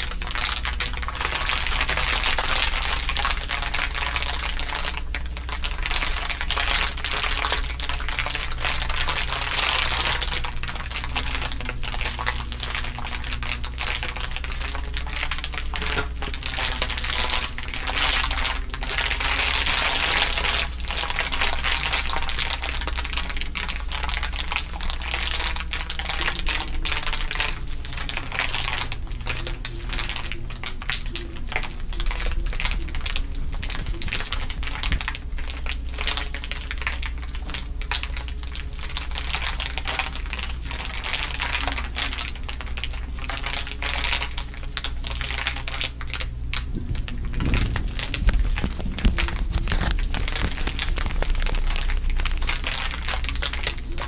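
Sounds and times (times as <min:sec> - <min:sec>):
material crinkling: 0:00.0 - 0:54.0
steady low hum: 0:00.0 - 0:54.0.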